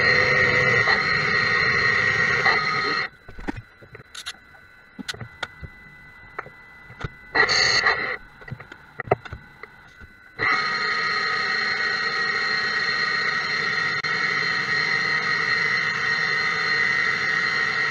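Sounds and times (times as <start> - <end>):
lathe cutting high whine: 0.0 - 3.1, 4.7 - 9.2, 9.9 - 17.9.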